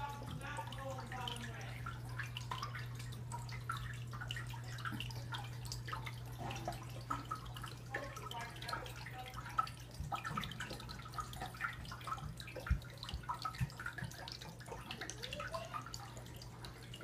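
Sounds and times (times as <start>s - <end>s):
low equipment hum: 0.0s - 17.0s
water trickling and dripping: 0.0s - 17.0s.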